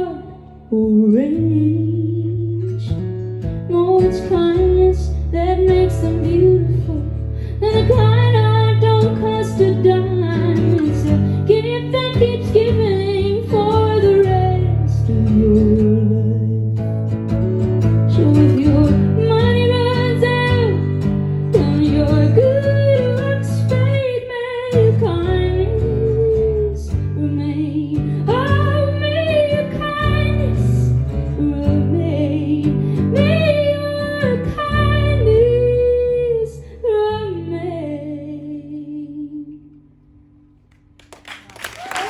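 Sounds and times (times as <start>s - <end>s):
woman singing slow song: 0.0s - 3.0s, 3.7s - 16.8s, 18.1s - 39.9s
acoustic guitar: 0.0s - 41.5s.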